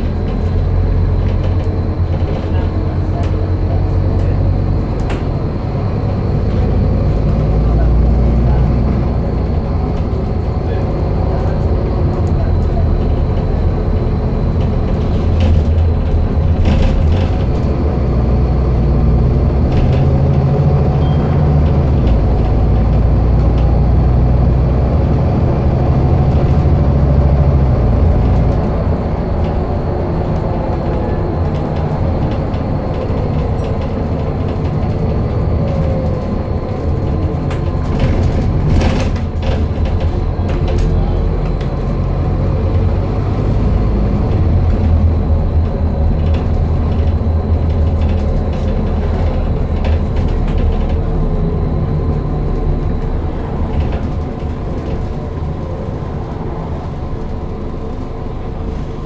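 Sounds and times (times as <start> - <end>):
bus diesel engine: 0.0 - 59.0
road and tyre noise: 0.0 - 59.0.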